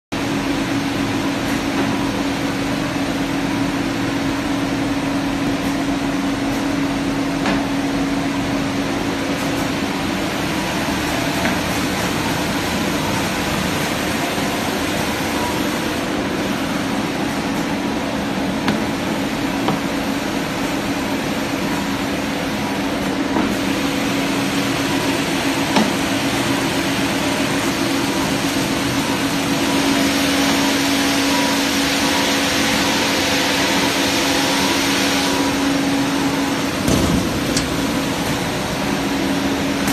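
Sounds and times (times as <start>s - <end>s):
machinery humming: 0.2s - 39.9s.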